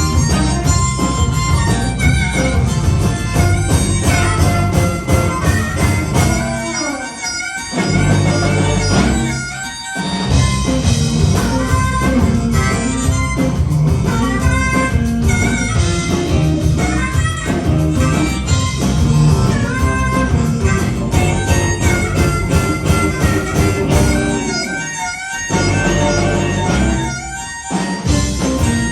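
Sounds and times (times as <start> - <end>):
blues band playing: 0.0 - 28.9
harmonica bending notes: 0.0 - 28.9.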